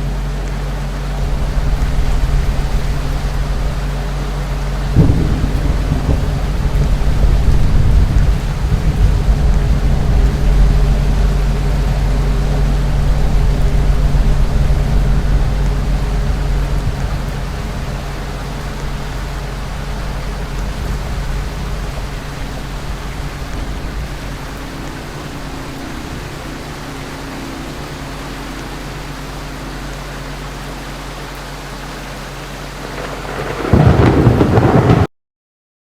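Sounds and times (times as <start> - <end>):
sudden loud rumble: 0.0 - 28.4, 32.8 - 35.1
ceiling fan running: 0.0 - 35.0.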